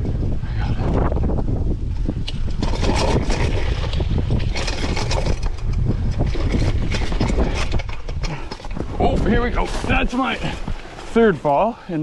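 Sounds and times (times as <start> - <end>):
wind on microphone: 0.0 - 11.6
bike rattling over rocks: 1.0 - 11.6.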